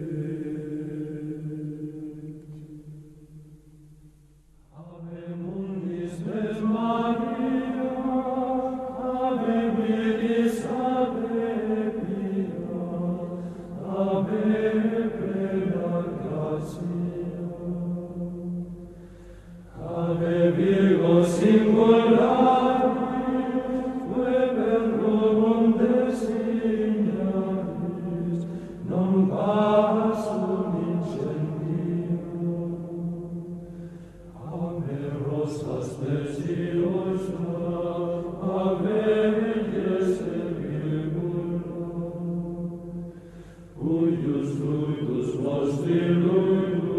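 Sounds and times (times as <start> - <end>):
voices singing slow chant: 0.0 - 46.9.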